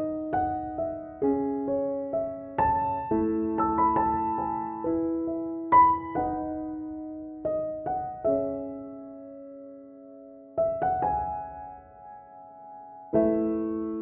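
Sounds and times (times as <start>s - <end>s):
slow soft piano notes: 0.0s - 14.0s.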